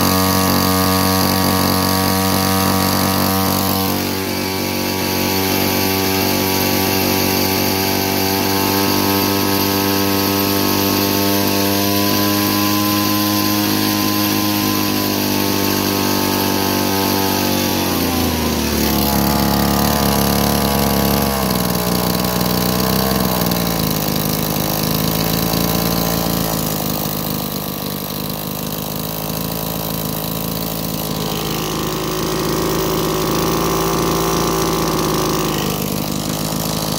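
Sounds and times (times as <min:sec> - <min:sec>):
string trimmer engine running: 0:00.0 - 0:36.9.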